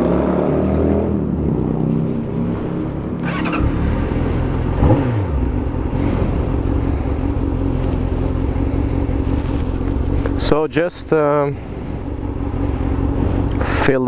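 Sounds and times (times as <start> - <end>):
motorcycle engine running: 2.0 - 14.0.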